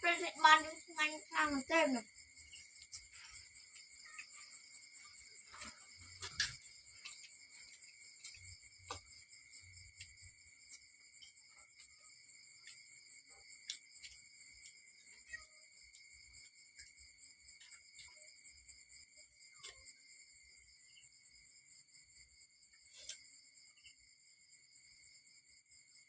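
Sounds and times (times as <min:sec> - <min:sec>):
insect chorus: 0:00.0 - 0:26.0.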